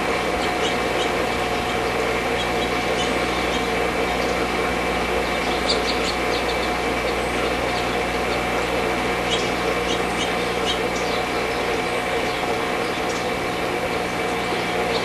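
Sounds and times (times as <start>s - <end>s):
small birds chirping: 0.0s - 15.0s
steady mechanical hum: 0.0s - 15.0s.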